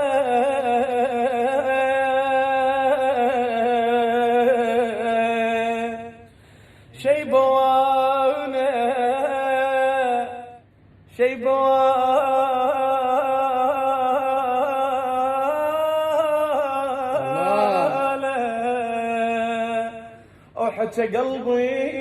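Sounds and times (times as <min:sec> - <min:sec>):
man singing unaccompanied: 0:00.0 - 0:06.2, 0:07.0 - 0:22.0.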